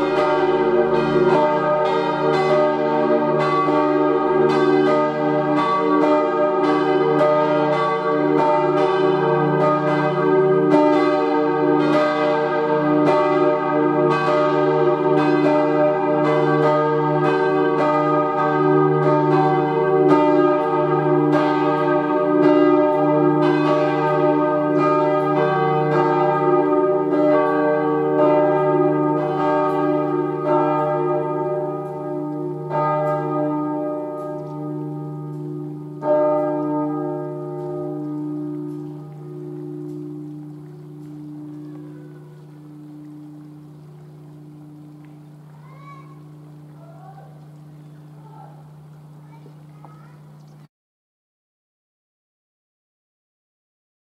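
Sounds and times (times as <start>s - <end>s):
church bells ringing: 0.0s - 50.3s.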